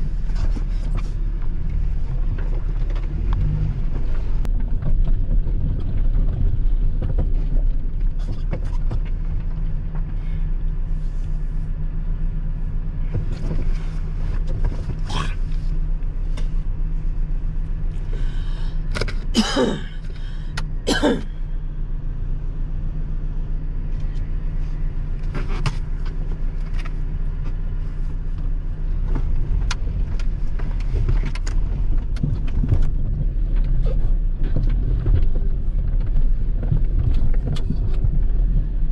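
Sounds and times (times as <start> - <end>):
low engine rumble: 0.0 - 38.9.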